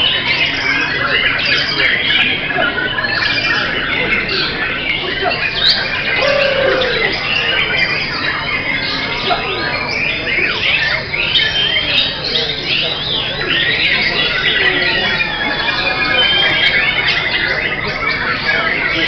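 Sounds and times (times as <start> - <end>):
songbirds singing in chorus: 0.0 - 19.0.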